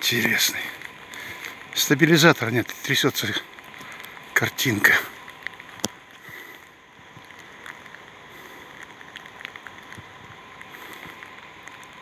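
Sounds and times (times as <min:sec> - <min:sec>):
faint ticks: 0:00.0 - 0:12.0
wind and light rain hiss: 0:00.0 - 0:12.0.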